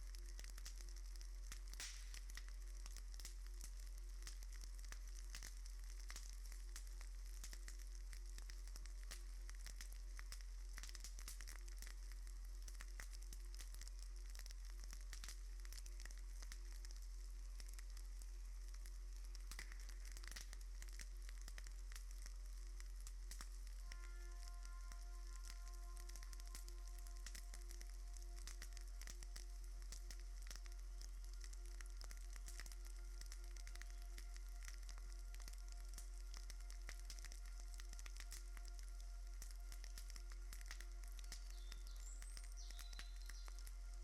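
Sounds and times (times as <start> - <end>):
constant low hum: 0.0 - 44.0
crackling hiss with pops: 0.0 - 44.0.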